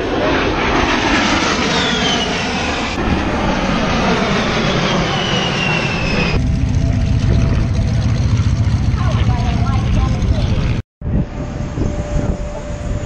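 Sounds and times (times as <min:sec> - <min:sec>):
jet engines roaring and whining: 0:00.0 - 0:13.0
low engine rumble: 0:00.2 - 0:13.0.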